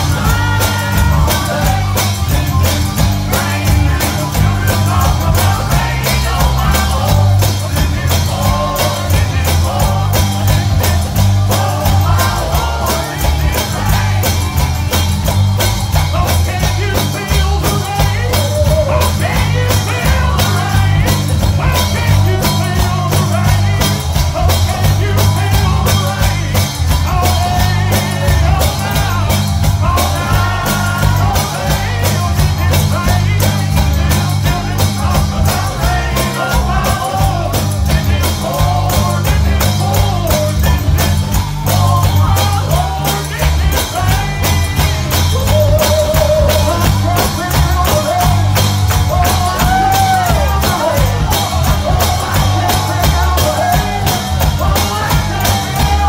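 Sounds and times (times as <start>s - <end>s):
gospel band playing: 0.0s - 56.0s
heavy bass: 0.0s - 56.0s
people singing: 0.0s - 56.0s.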